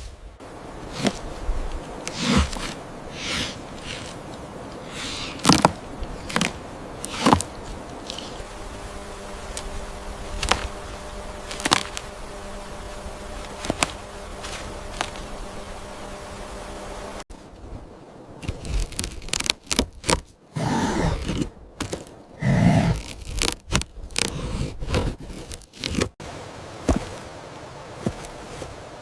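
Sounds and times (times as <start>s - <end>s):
insect buzzing: 0.0s - 17.3s, 18.1s - 26.1s.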